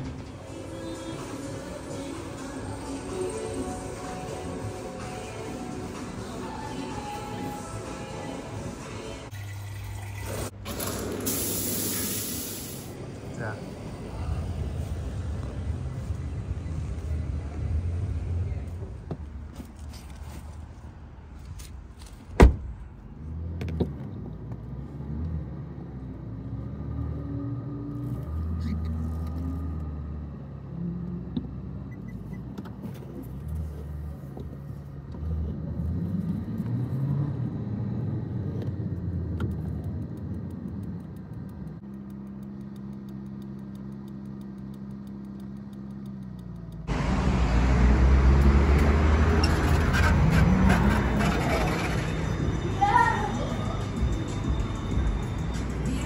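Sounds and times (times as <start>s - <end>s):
car engine driving: 0.0s - 56.0s.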